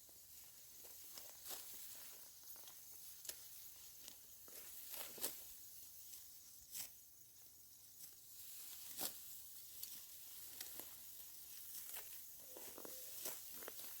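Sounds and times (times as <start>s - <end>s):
dry rice stalks rustling: 0.0s - 14.0s.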